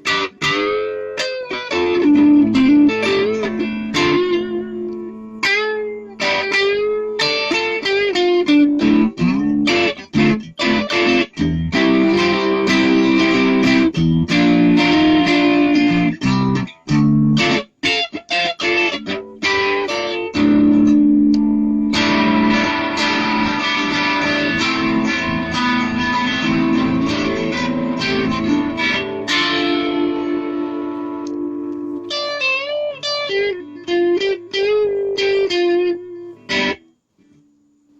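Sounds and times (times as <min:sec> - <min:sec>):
electric guitar playing: 0:00.0 - 0:36.9.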